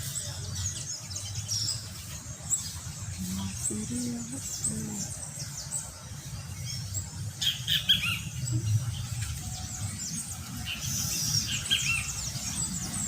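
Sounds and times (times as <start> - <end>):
flock of birds chirping: 0.0 - 13.0
low steady rumble: 2.2 - 13.0.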